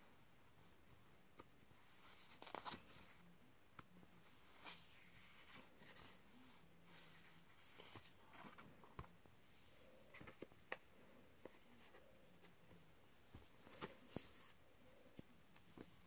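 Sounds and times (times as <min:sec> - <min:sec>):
paper pages rustling: 0:01.4 - 0:03.2, 0:04.2 - 0:16.0.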